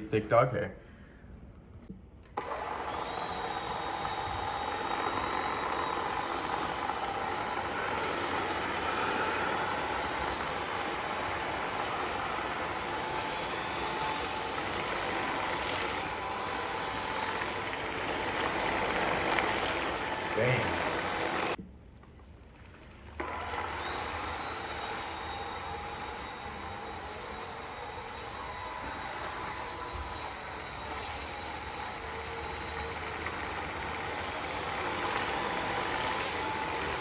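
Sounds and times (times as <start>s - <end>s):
stick vacuum running: 2.2s - 21.6s, 23.2s - 37.0s.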